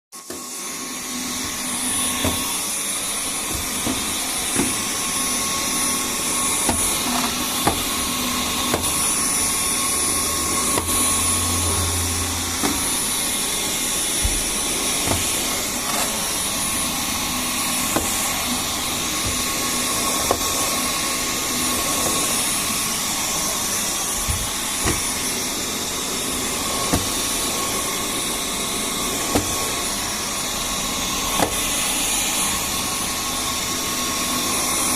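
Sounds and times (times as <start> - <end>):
vacuum cleaner running: 0.2 - 34.9.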